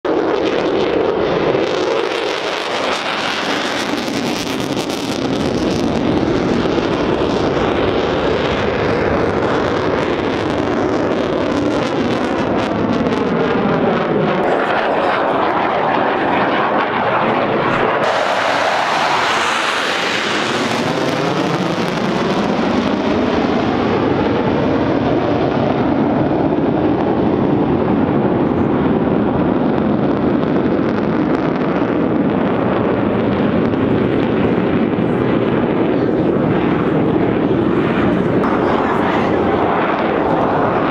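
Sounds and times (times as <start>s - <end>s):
fighter jets flying past: 0.1s - 40.9s.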